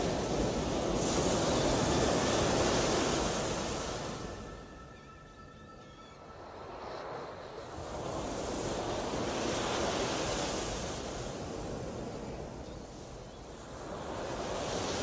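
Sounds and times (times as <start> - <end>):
waves washing in: 0.0 - 4.9, 6.3 - 15.0.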